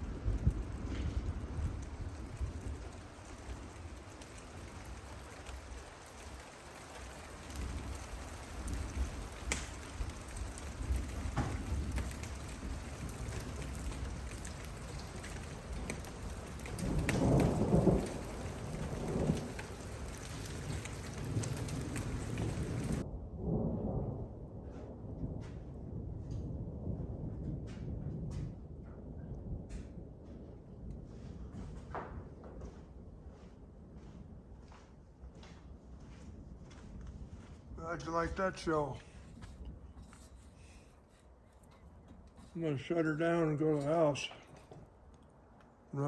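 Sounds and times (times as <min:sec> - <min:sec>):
thunder rumbling: 0:00.0 - 0:34.6, 0:36.1 - 0:44.4
steady rain falling: 0:00.0 - 0:46.0.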